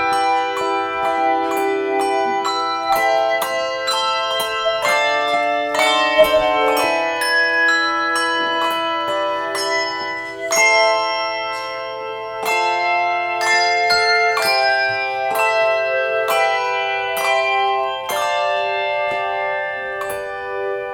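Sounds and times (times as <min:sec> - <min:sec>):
handbell choir playing: 0:00.0 - 0:20.9.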